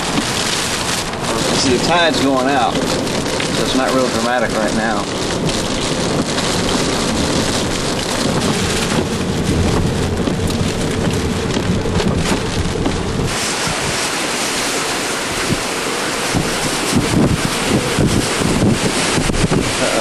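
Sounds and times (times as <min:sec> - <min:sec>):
rain hiss: 0:00.0 - 0:20.0
wind buffeting microphone: 0:00.0 - 0:20.0.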